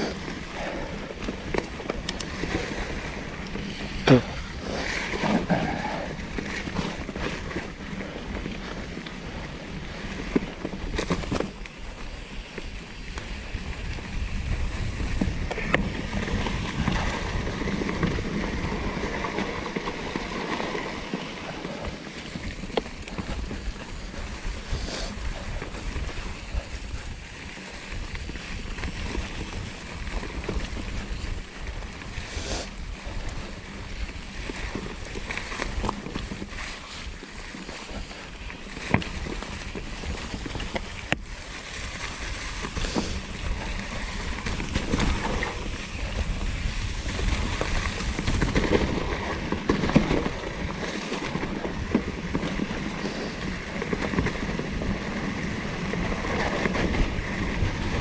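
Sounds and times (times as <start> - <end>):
tyre and wind noise: 0.0 - 58.0.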